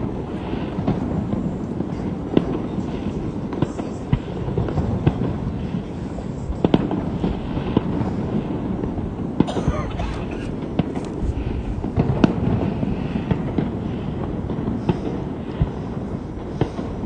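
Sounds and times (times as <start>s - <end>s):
fireworks bangs and cracks: 0.0s - 17.0s
fireworks crackling: 0.0s - 17.0s.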